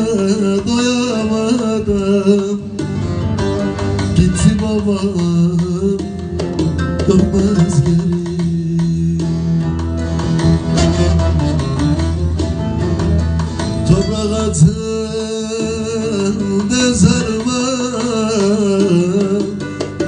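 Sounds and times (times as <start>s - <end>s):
long-necked lute picked rapidly: 0.0s - 20.0s.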